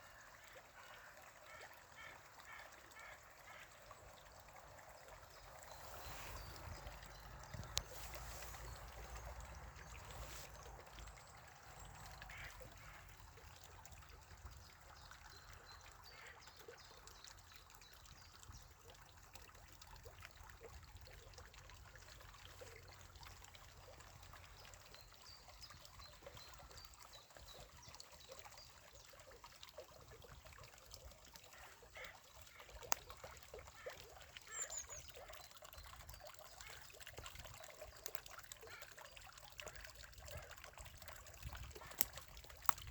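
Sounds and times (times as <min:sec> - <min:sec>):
water trickling: 0:00.0 - 0:42.9.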